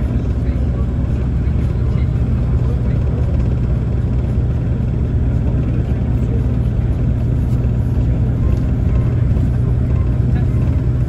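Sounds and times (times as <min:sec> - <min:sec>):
diesel engine low drone: 0:00.0 - 0:11.0
road noise: 0:00.0 - 0:11.0.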